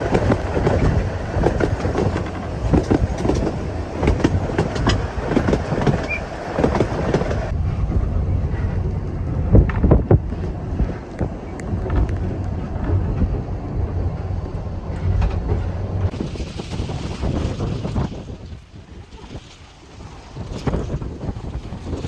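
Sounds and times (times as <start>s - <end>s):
train rumbling on rails: 0.0s - 22.0s
wheels clicking on track: 0.0s - 22.0s.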